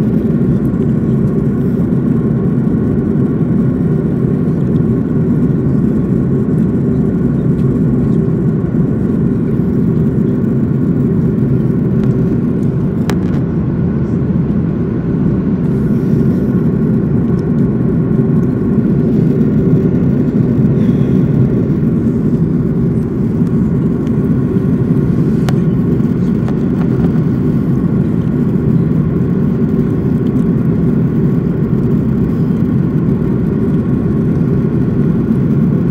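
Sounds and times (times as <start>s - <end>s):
airplane cabin engine drone: 0.0s - 35.9s.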